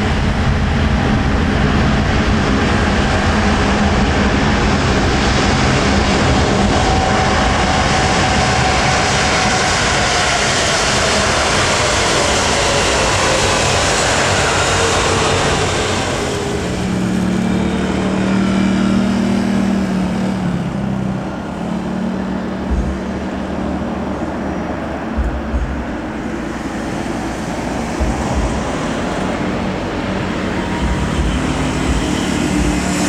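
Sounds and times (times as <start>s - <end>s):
passenger plane passing overhead: 0.0s - 33.0s.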